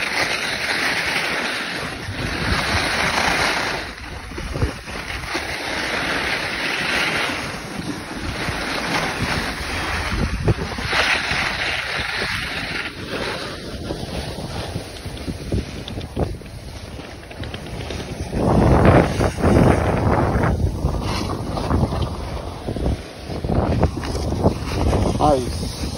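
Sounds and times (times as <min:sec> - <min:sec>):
ski edges scraping snow: 0:00.0 - 0:25.9
wind buffeting microphone: 0:01.7 - 0:25.9.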